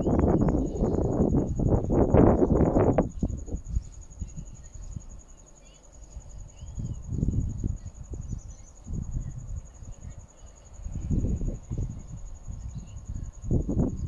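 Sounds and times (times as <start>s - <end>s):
wind gusting on microphone: 0.0s - 5.4s, 6.1s - 14.0s
faint bird chirp: 0.0s - 14.0s
insects trilling: 0.0s - 14.0s.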